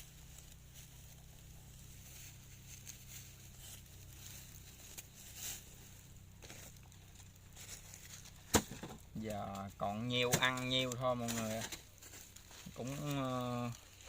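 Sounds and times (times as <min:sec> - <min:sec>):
faint rustling and handling ticks: 0:00.0 - 0:14.0
low steady hum: 0:00.0 - 0:14.0.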